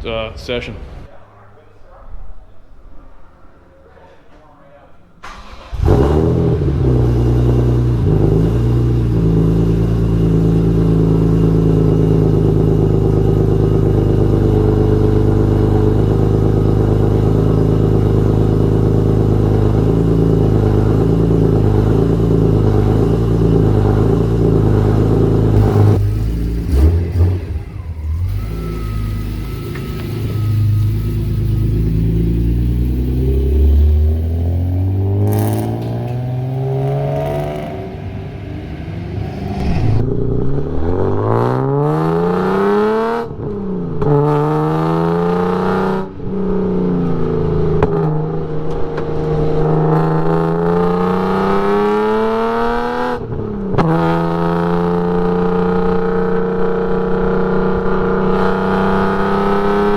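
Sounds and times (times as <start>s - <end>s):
loud car engine and exhaust: 5.2s - 59.9s.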